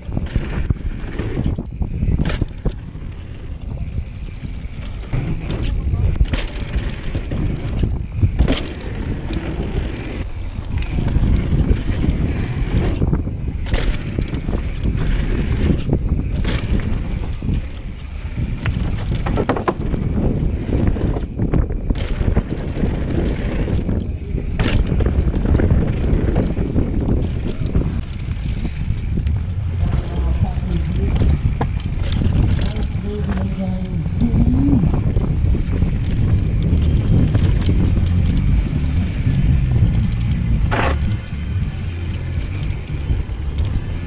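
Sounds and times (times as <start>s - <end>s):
bike clattering over bumps: 0.0s - 44.0s
bike tyres rumbling over dirt: 0.0s - 44.0s
wind on microphone: 0.0s - 44.0s.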